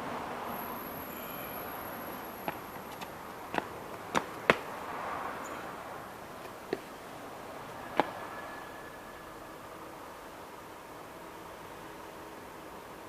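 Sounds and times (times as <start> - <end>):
steady hiss: 0.0 - 12.7.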